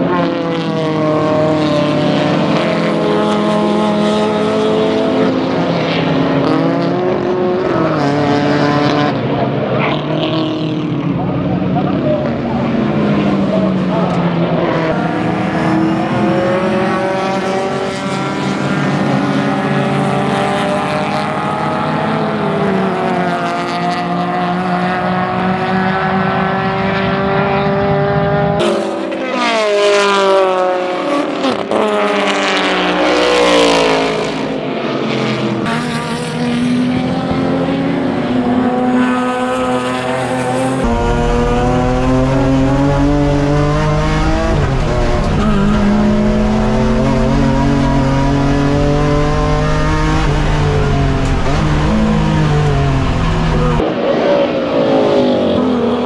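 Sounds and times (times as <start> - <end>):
race car engine from inside cabin: 0.0 - 56.0
race cars racing past: 0.0 - 56.0.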